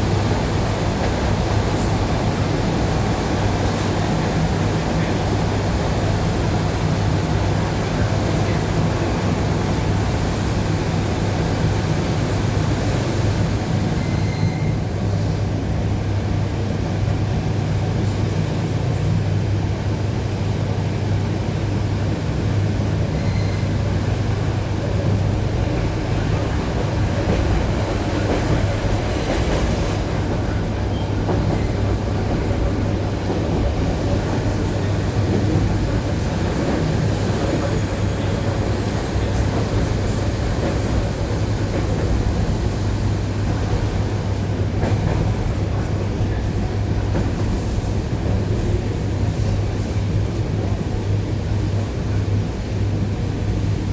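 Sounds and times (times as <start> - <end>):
train traction hum: 0.0 - 53.9.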